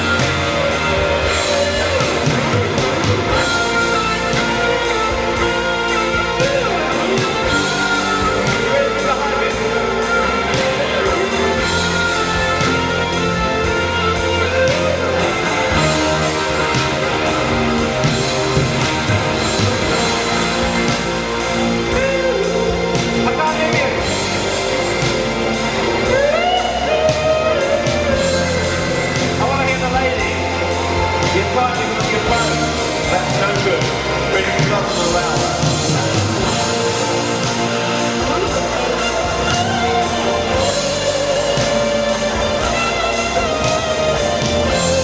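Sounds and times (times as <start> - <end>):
drums keeping a beat: 0.0 - 45.0
electric guitar melodic lead: 0.0 - 45.0.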